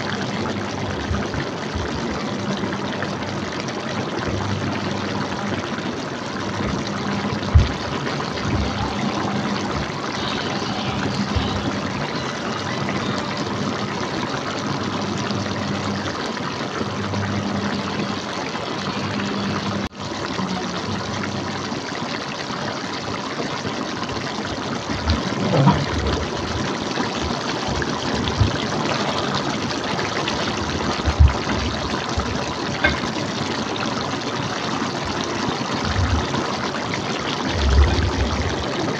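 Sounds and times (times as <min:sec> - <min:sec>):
stew bubbling in a pot: 0:00.0 - 0:38.9.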